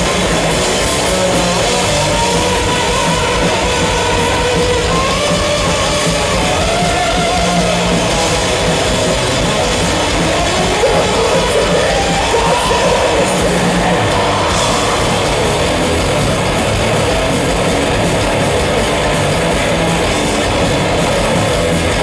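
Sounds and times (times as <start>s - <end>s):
heavy metal band playing: 0.0s - 22.0s.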